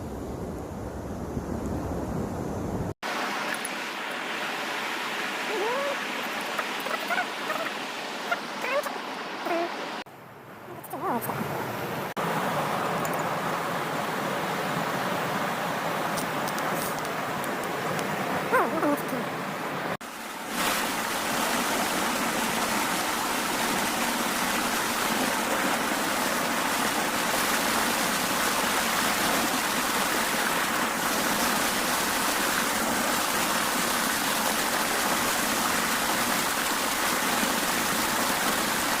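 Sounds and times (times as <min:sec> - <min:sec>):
river water rushing: 0:03.0 - 0:39.0.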